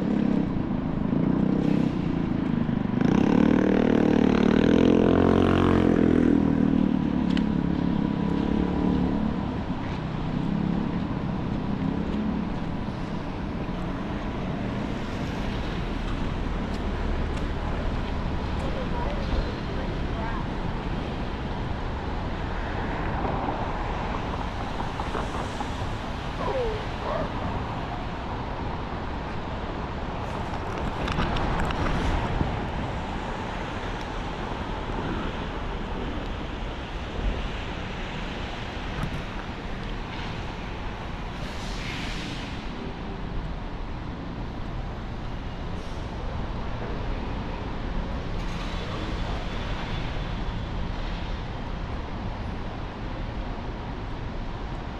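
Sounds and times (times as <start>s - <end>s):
traffic on wet pavement: 0.0s - 54.9s
vehicles passing: 0.0s - 54.9s.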